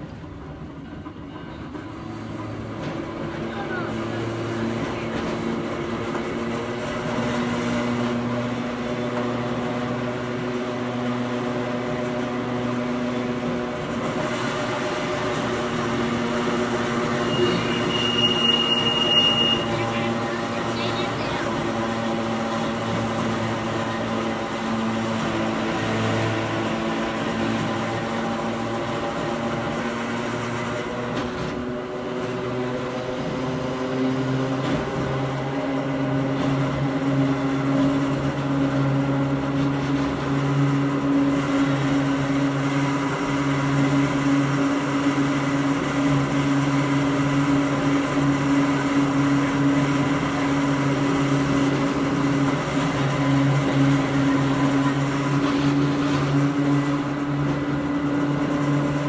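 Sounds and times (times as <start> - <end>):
electric railcar motor whine: 0.0 - 59.0
train running noise: 0.0 - 59.0.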